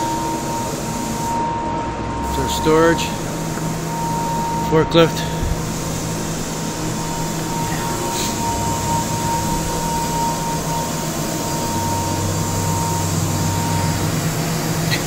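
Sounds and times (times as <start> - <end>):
shop machinery drone: 0.0 - 15.0.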